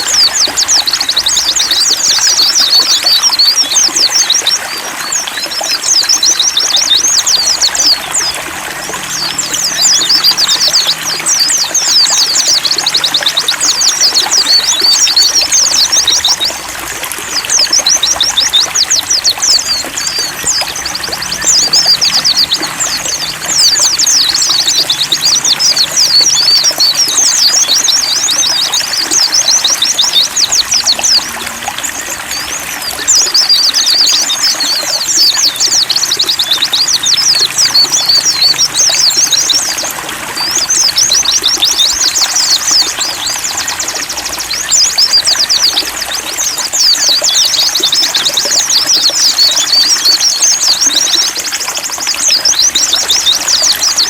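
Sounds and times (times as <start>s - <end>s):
songbirds twittering: 0.0s - 54.0s
trickling water: 0.0s - 54.0s.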